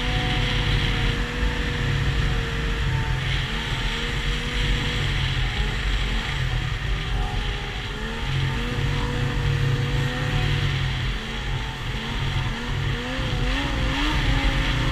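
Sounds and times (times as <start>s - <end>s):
snowmobile engine cruising: 0.0s - 14.9s.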